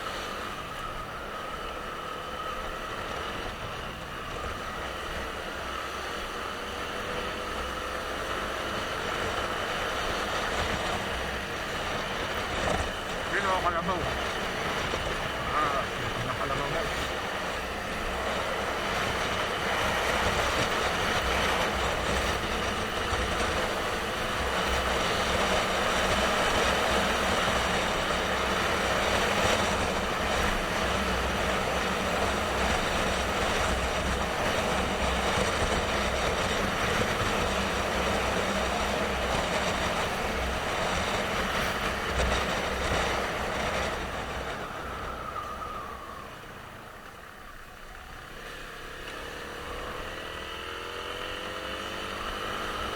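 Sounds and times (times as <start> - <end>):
rushing wind: 0.0 - 48.8
motorcycle engine: 0.0 - 52.9.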